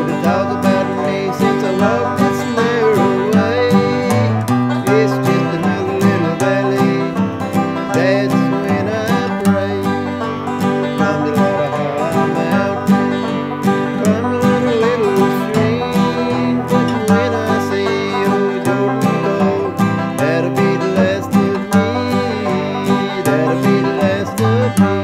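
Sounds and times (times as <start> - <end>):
acoustic guitar: 0.0 - 25.0
banjo playing: 0.0 - 25.0.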